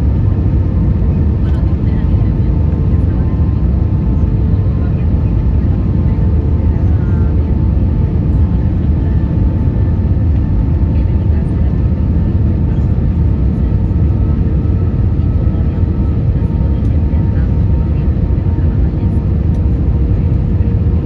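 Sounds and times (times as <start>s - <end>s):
airflow and jet engine rumble: 0.0s - 21.0s.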